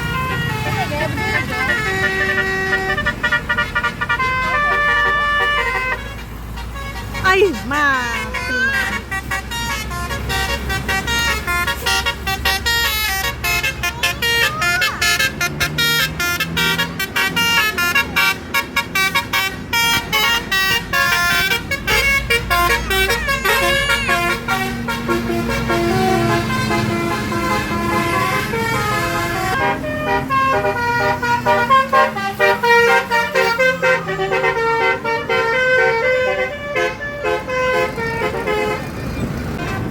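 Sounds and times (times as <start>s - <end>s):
bus engine running: 0.0s - 39.9s
bus horn playing melodies: 0.0s - 39.9s.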